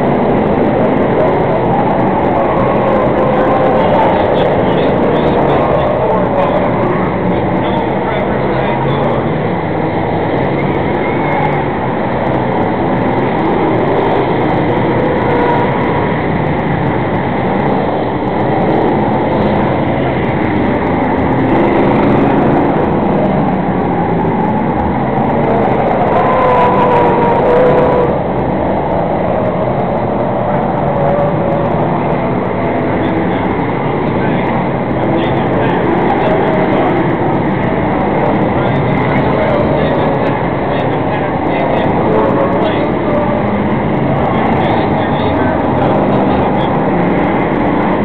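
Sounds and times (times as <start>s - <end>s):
racing car engines droning: 0.0s - 48.0s.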